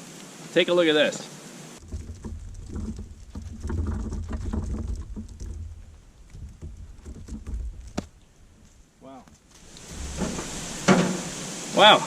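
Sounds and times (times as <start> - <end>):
wood chips rustling and pattering: 1.8 - 11.8.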